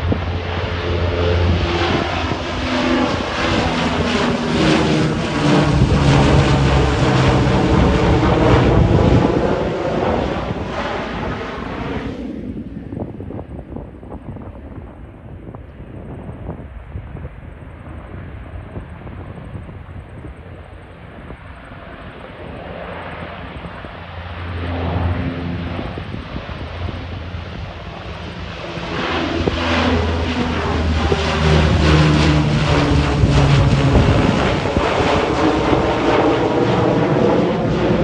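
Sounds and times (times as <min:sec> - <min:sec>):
turboprop aircraft flying past: 0:00.0 - 0:38.0.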